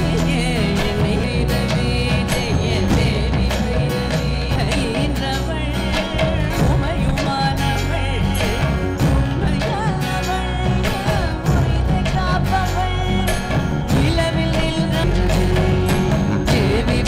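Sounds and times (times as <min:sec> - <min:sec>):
instrumental accompaniment: 0:00.0 - 0:17.0
person singing devotional melody: 0:00.0 - 0:17.0
regular drum beat: 0:00.0 - 0:17.0.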